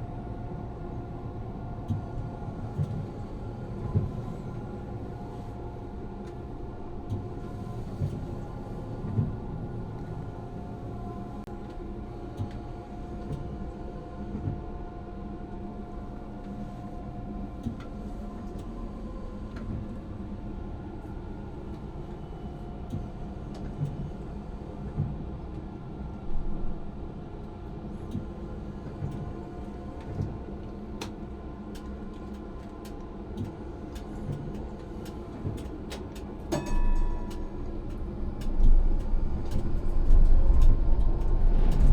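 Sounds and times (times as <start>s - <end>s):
tram running hum: 0.0s - 41.9s.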